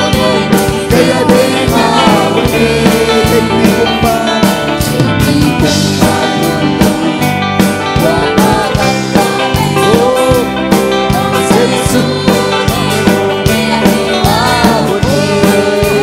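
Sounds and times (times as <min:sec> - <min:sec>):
drum kit beat: 0:00.0 - 0:16.0
guitar: 0:00.0 - 0:16.0
voices singing: 0:00.0 - 0:16.0.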